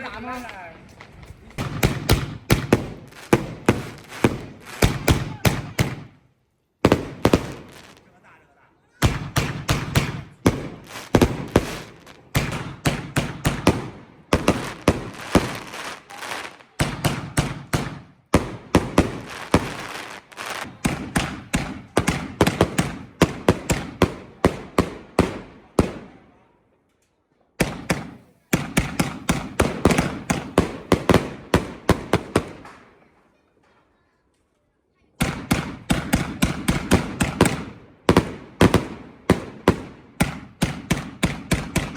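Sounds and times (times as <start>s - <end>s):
fireworks bangs: 0.0s - 8.4s, 9.0s - 26.4s, 27.6s - 33.2s, 35.2s - 41.9s.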